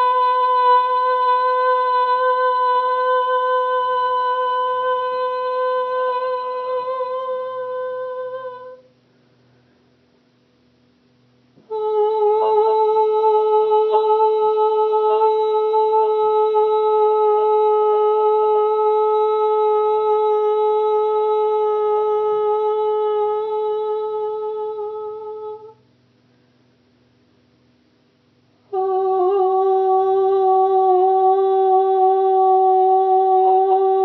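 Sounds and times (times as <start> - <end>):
woman singing long note: 0.0 - 8.9, 11.6 - 25.8, 28.7 - 34.0.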